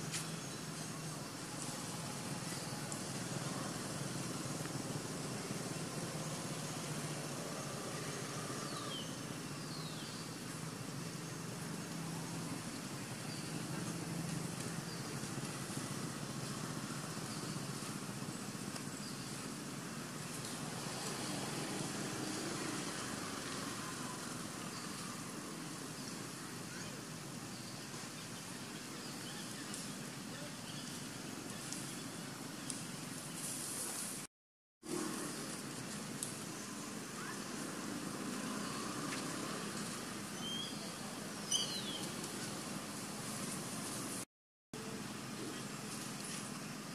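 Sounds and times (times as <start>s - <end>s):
distant road traffic: 0.0s - 34.2s, 34.8s - 46.9s.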